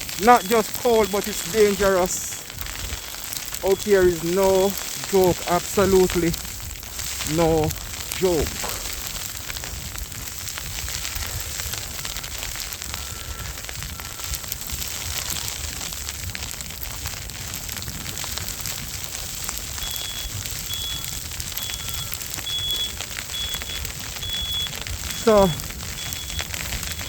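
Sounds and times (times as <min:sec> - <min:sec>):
snowstorm crackling hiss: 0:00.0 - 0:27.0
wind rumbling on microphone: 0:00.0 - 0:27.0.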